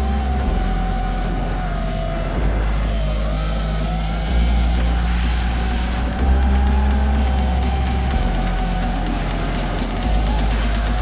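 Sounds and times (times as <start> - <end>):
music bass line: 0.0 - 11.0
rally car engine running hard: 0.0 - 11.0.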